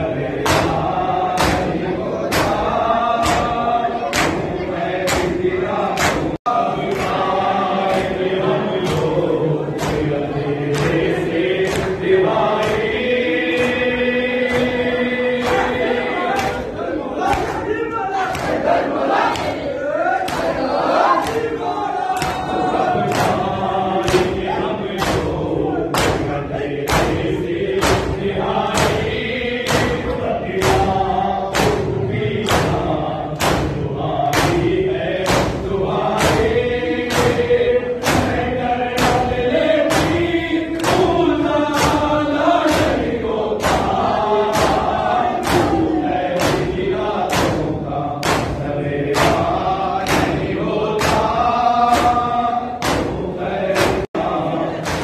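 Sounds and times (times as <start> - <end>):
men chanting in unison: 0.0 - 55.0
hands slapping chests: 0.4 - 8.2, 8.8 - 17.7, 18.3 - 19.6, 20.2 - 21.5, 22.2 - 54.1.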